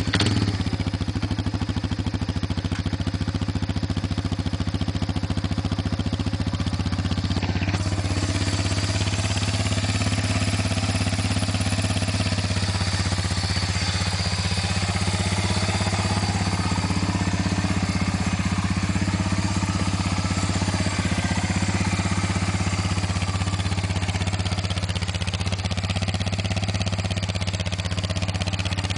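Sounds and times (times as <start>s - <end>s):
atv engine idling: 0.0s - 28.9s.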